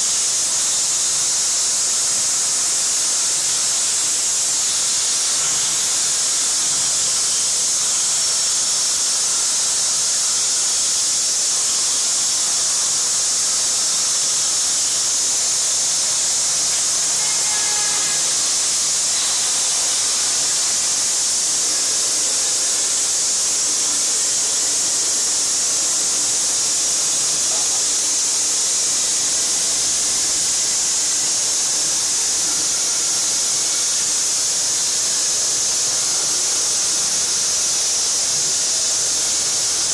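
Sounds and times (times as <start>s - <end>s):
plasma cutter hissing: 0.1s - 39.9s.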